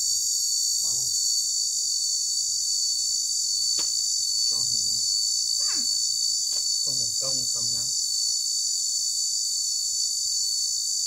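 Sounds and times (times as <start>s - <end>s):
insects shrilling: 0.0s - 11.0s.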